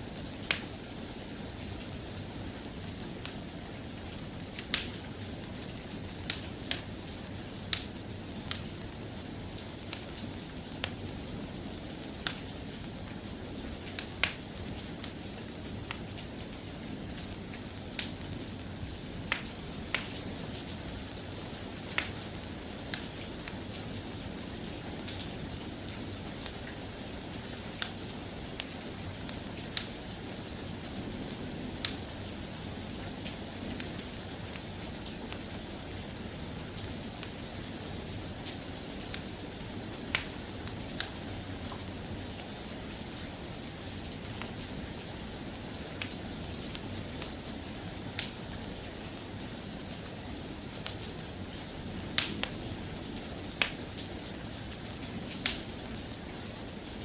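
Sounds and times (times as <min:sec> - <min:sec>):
soft rain hissing: 0:00.0 - 0:57.0
wood fire crackling: 0:00.1 - 0:31.0, 0:31.6 - 0:56.4.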